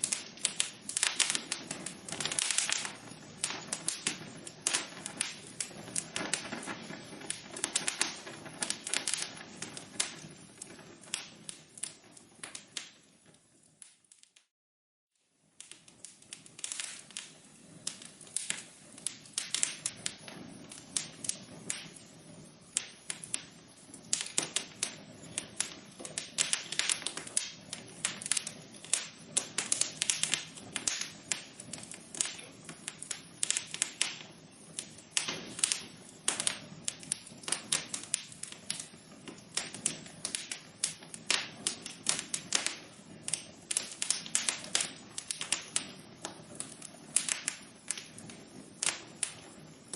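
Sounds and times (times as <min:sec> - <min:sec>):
wood fire crackling: 0:00.0 - 0:14.5, 0:15.2 - 0:49.9.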